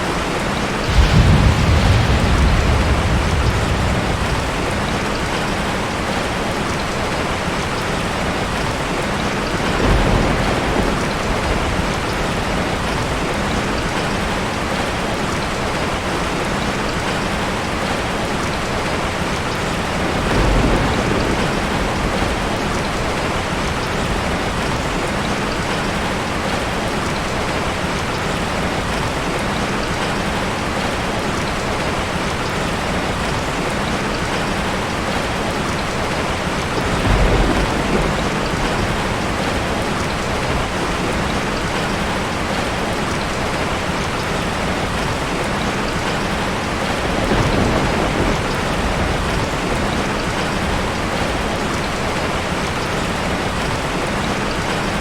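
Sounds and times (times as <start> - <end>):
low rumbles of thunder: 0.0 - 15.0, 19.3 - 27.2, 33.0 - 55.0
steady rain pouring: 0.0 - 55.0.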